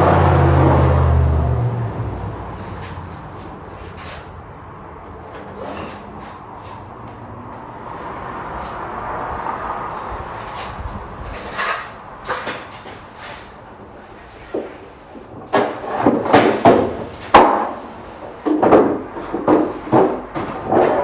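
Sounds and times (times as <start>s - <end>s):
knocks and clatters of garage work: 0.0s - 21.0s.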